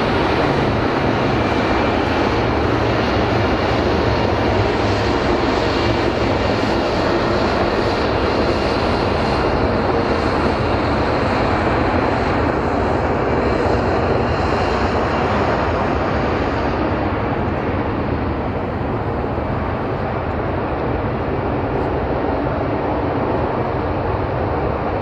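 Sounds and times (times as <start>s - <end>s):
helicopter running: 0.0s - 24.8s.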